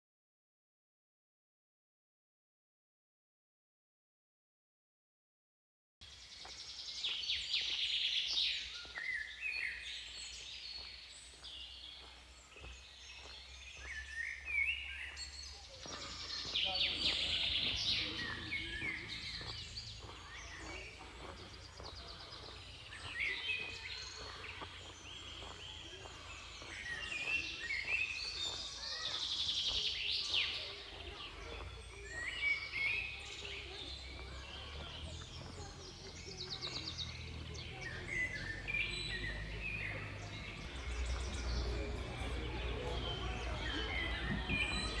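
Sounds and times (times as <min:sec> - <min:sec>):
songbirds singing and chirping: 0:06.0 - 0:45.0.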